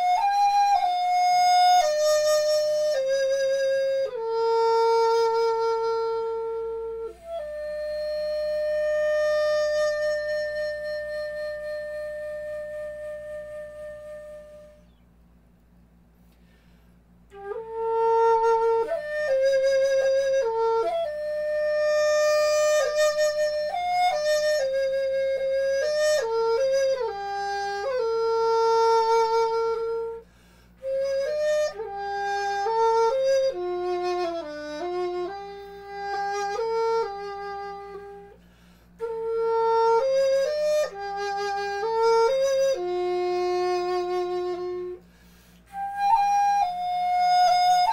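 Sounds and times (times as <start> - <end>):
flute-like solo melody: 0.0 - 15.1, 17.3 - 38.4, 39.0 - 47.9
steady low hum: 0.0 - 47.9.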